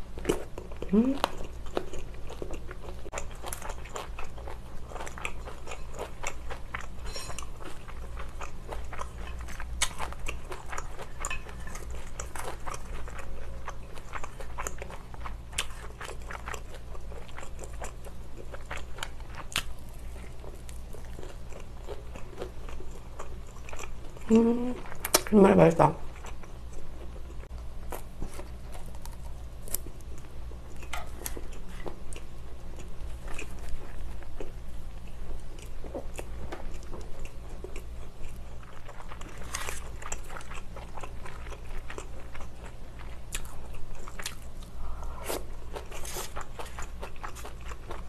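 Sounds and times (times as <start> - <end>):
steady low hum: 0.0 - 48.0
chewing crunchy snacks: 0.2 - 25.3, 26.1 - 48.0.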